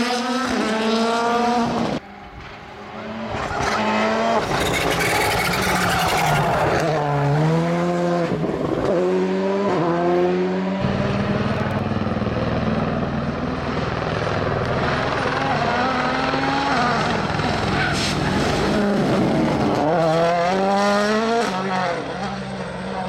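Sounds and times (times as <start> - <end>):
rally car engines accelerating: 0.0 - 23.0.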